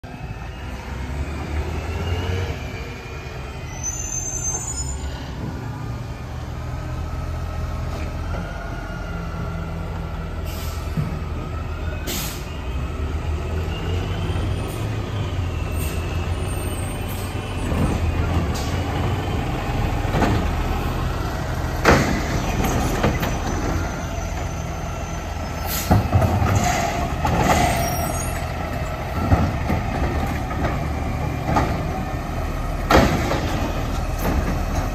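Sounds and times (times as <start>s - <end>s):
garbage truck engine rumbling: 0.0s - 34.9s.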